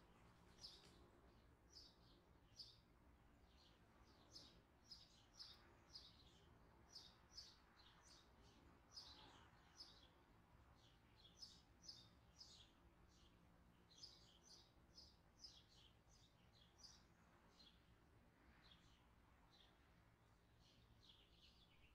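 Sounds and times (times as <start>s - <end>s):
faint bird chirping: 0.0s - 21.9s.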